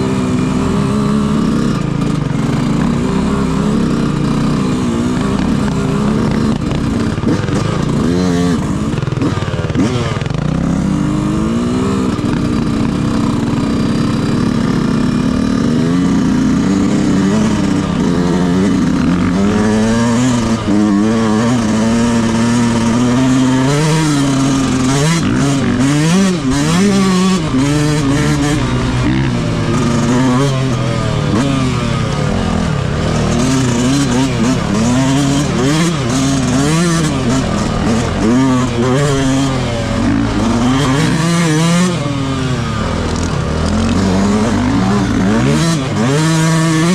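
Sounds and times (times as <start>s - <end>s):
motocross engine revving: 0.0s - 46.9s.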